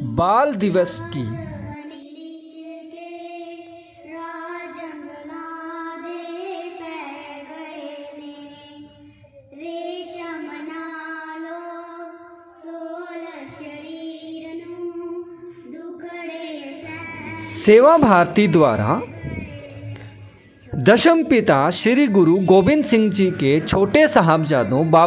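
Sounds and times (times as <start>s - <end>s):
girl singing held notes: 1.0s - 21.3s.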